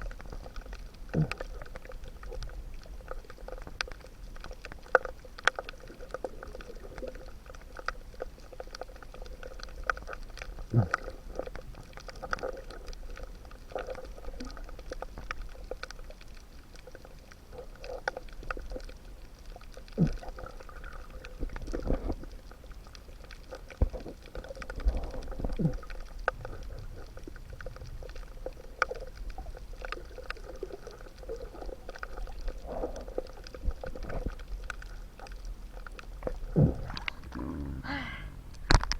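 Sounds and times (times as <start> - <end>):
low underwater rumble: 0.0 - 38.9
underwater clicks and crackle: 0.0 - 38.9.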